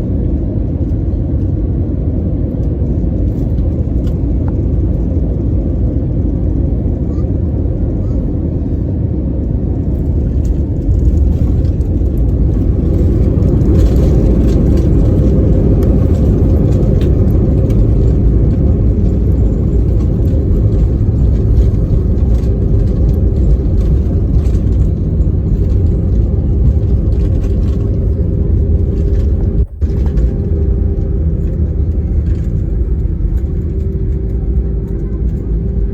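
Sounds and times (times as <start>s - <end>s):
airplane landing rumble: 0.0s - 35.9s.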